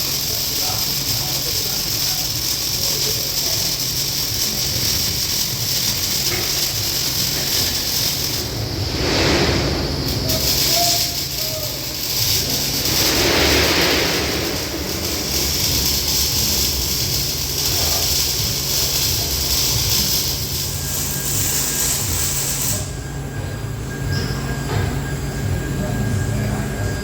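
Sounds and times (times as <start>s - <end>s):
welding arc hissing: 0.0s - 24.7s
low machine hum: 0.0s - 27.0s.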